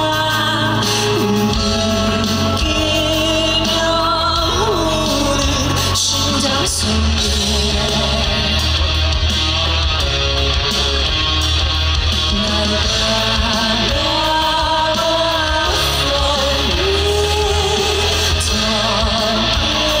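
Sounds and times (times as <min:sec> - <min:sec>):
man singing into microphone: 0:00.0 - 0:08.7, 0:12.3 - 0:20.0
instrumental accompaniment with bass: 0:00.0 - 0:20.0.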